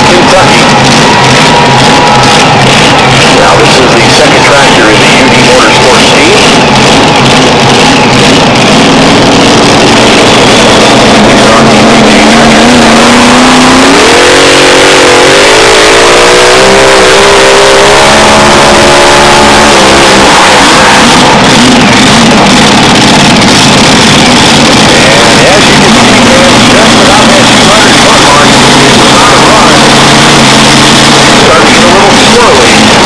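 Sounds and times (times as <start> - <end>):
tractor engine at full throttle: 0.0 - 33.0.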